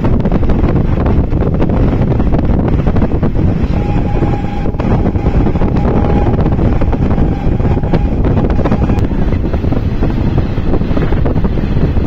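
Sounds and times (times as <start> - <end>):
train wheels rumbling on rail: 0.0 - 12.0
wind buffeting microphone: 0.0 - 12.0.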